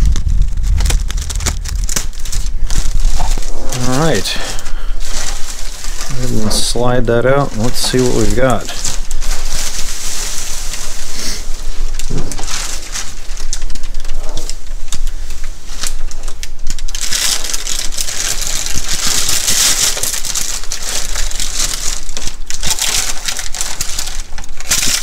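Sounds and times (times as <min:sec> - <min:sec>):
plastic packaging crinkling: 0:00.0 - 0:25.0.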